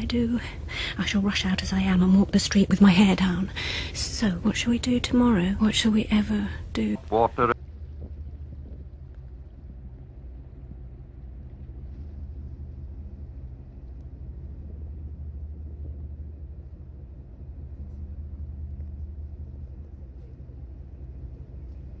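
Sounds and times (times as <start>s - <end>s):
faint hum: 0.0s - 22.0s
low rumbling drone: 0.0s - 22.0s.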